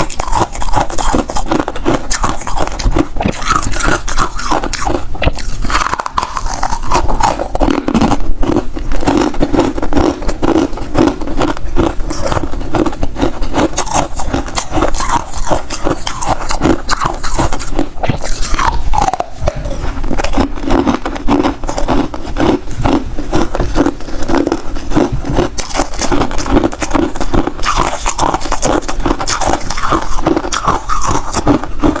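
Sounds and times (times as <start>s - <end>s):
ice being chewed: 0.0s - 32.0s.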